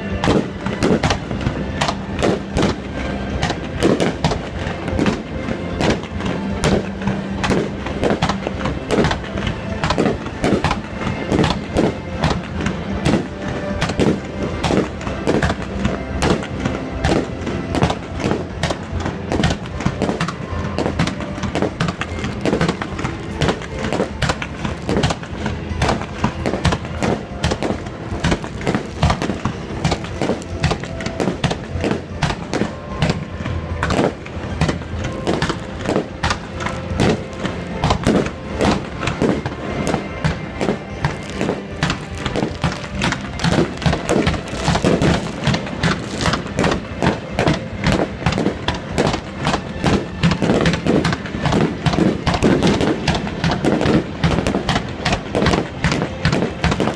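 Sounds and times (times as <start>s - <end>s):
fireworks bangs: 0.0s - 56.9s
music playing: 0.0s - 56.9s.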